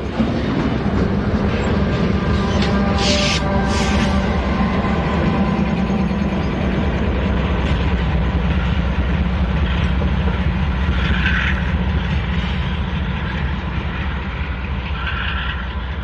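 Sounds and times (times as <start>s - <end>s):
locomotive engine rumble: 0.0s - 16.0s
rolling freight cars: 0.0s - 16.0s.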